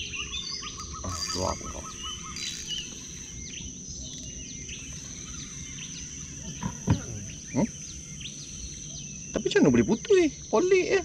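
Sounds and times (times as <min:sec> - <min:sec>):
insects droning: 0:00.0 - 0:11.0
short bird chirps: 0:00.1 - 0:09.3.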